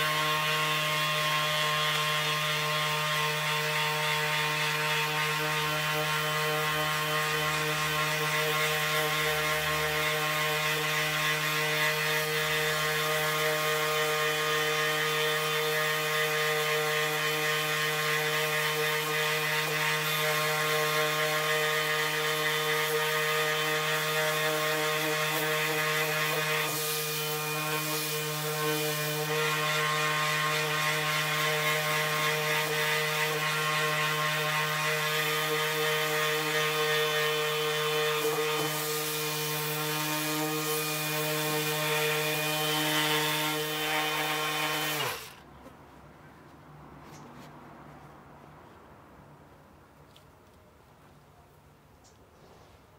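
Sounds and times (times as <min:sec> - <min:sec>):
sandpaper rasping on wood: 0:00.0 - 0:45.4
orbital sander whining: 0:00.0 - 0:45.5.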